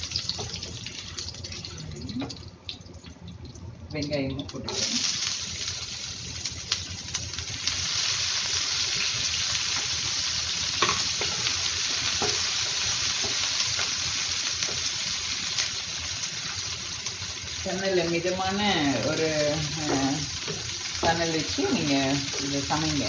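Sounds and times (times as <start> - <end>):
onions sizzling in oil: 0.0 - 2.4, 4.0 - 23.0.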